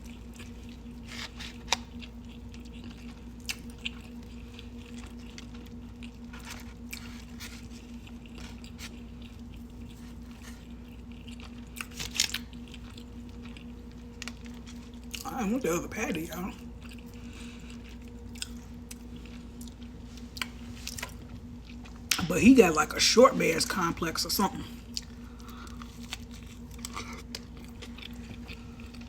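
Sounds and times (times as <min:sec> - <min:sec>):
person chewing food: 0:00.0 - 0:15.2, 0:16.6 - 0:22.2, 0:24.8 - 0:29.0
steady low hum: 0:00.0 - 0:29.0.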